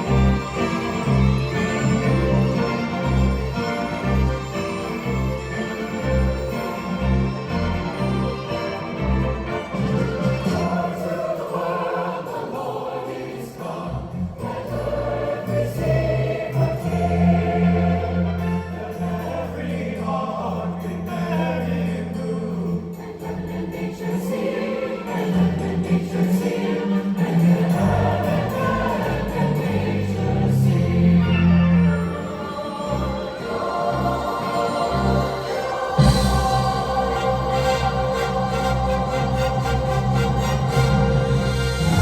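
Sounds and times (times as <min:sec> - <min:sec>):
choir singing a carol: 0:00.0 - 0:42.0
orchestral accompaniment: 0:00.0 - 0:42.0.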